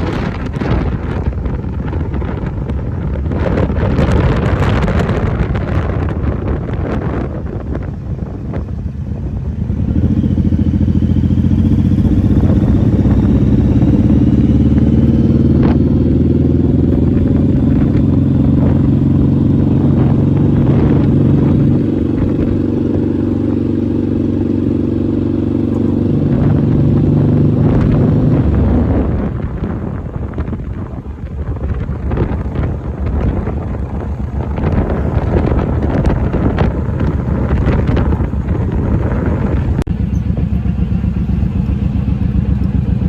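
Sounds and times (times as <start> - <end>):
motorcycle engine running: 0.0 - 43.0
wind rushing over microphone: 0.0 - 43.0.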